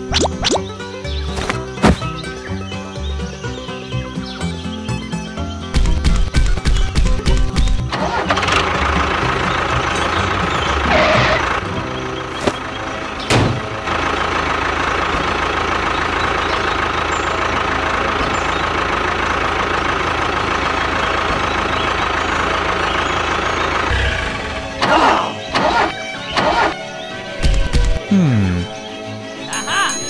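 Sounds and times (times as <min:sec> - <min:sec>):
tractor engine idling: 0:01.1 - 0:28.0.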